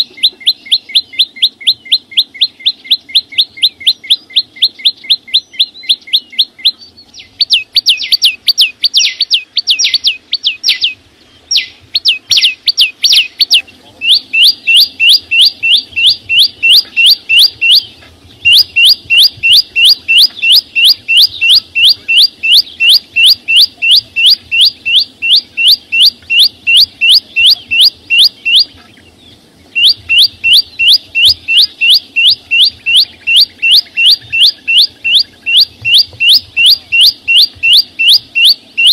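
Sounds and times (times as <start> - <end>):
songbird singing whistled notes: 0.0 - 38.9.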